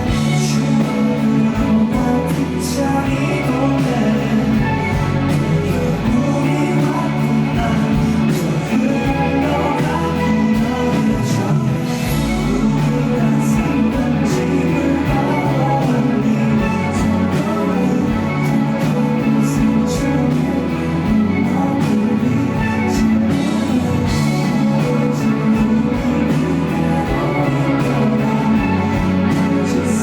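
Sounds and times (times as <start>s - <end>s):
guitar: 0.0s - 30.0s.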